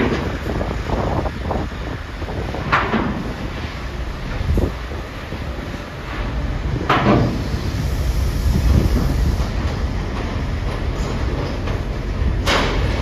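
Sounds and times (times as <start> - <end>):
heavy vehicles rumbling: 0.0 - 13.0.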